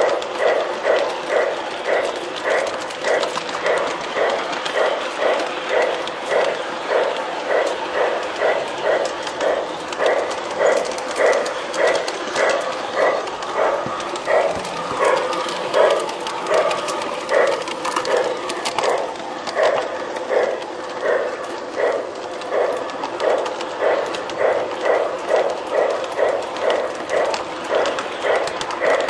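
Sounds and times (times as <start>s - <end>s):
model steam locomotive chuffing: 0.0s - 29.0s
wheels clicking on track: 0.0s - 29.0s.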